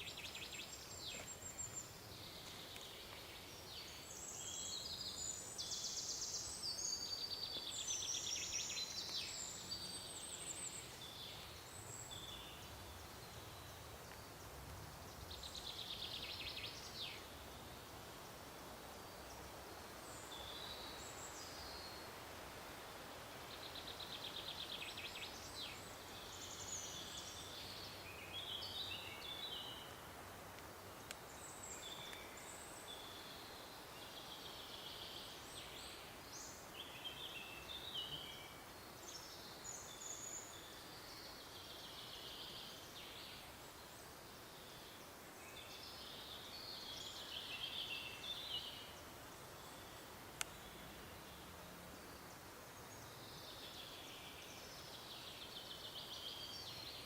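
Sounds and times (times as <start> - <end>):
songbirds singing and trilling: 0.0 - 22.6, 23.2 - 57.0
faint steady hiss: 0.0 - 57.0.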